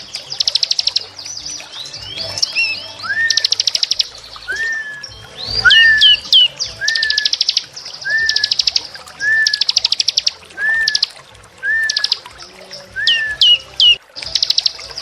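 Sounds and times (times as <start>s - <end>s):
down-slurred bird notes: 0.0s - 15.0s
rapid high bird trills: 0.0s - 15.0s.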